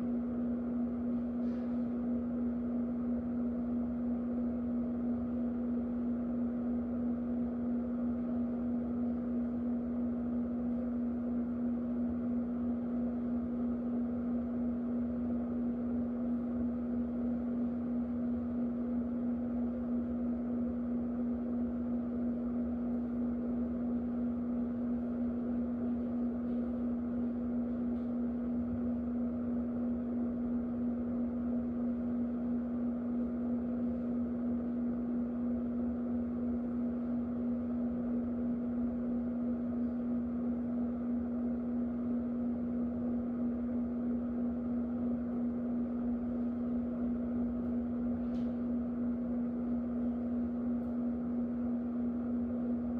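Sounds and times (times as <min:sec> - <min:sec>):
electric fan running: 0:00.0 - 0:52.9.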